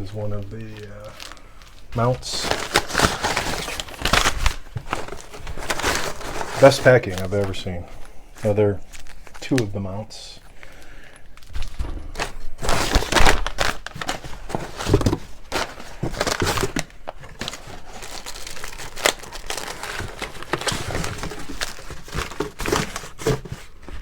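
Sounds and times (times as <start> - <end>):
packing material crinkling: 0.0 - 24.0.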